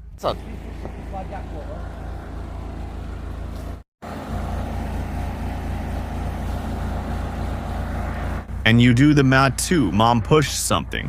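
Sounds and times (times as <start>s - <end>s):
backhoe engine running: 0.0s - 9.8s.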